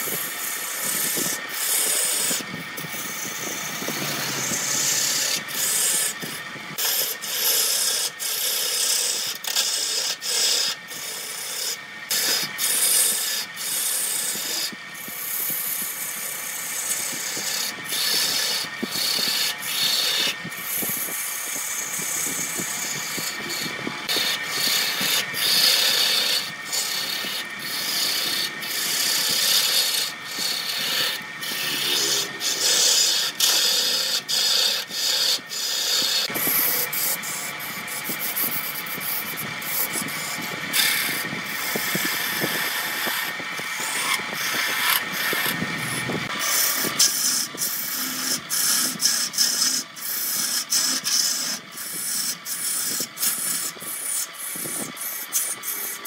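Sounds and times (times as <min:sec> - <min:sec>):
lathe tool scraping wood: 0:00.0 - 0:56.0.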